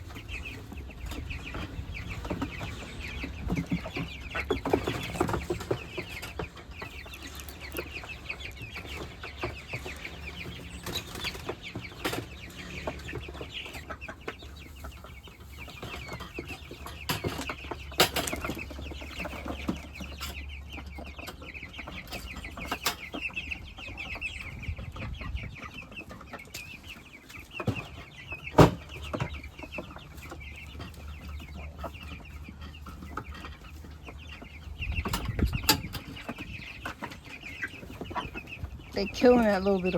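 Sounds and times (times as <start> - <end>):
chickens peeping and clucking: 0.0 - 39.9.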